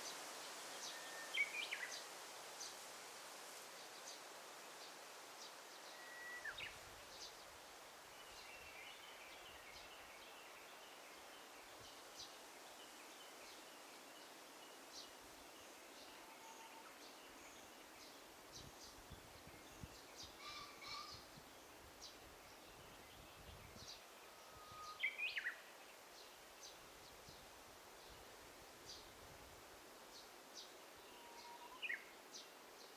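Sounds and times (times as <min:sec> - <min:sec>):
steady hiss: 0:00.0 - 0:20.4, 0:21.1 - 0:32.9.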